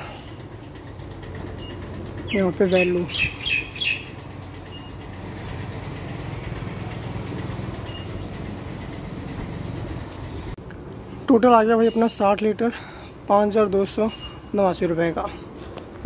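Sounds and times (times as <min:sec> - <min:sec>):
fuel pump humming: 0:00.0 - 0:16.0.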